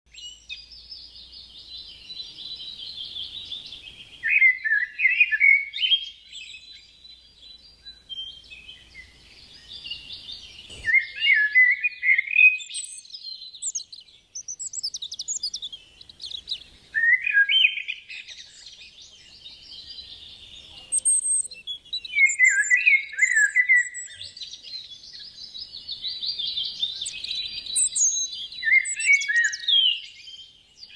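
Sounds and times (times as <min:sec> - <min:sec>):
songbirds chirping and trilling: 0:00.1 - 0:30.9.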